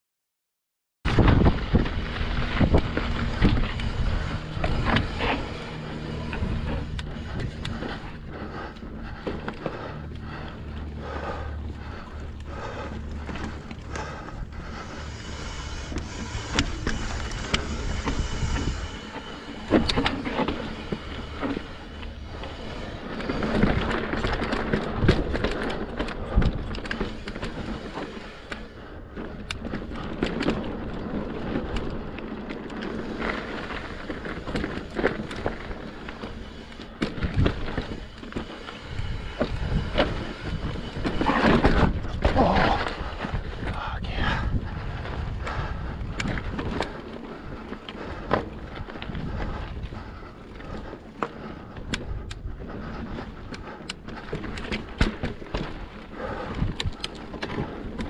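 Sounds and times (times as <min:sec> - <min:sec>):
bike frame and chain rattling: 0:01.1 - 0:58.0
bike tyres rumbling over rock: 0:01.1 - 0:58.0.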